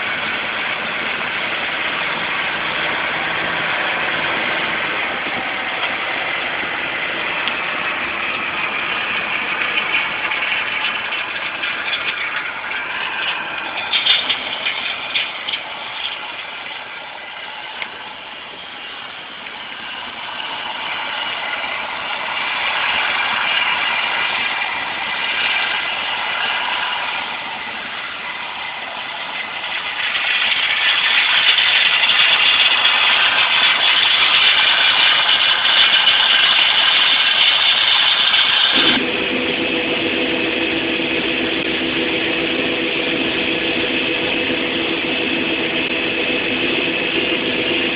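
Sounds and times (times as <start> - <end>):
diesel machinery running: 0.0 - 47.9.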